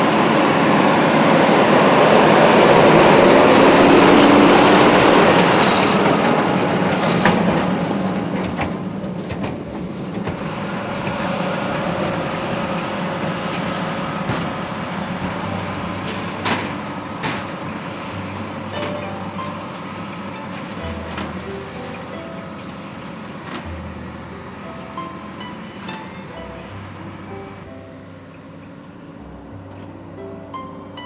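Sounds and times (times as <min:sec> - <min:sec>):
tractor machinery running: 0:00.0 - 0:31.0.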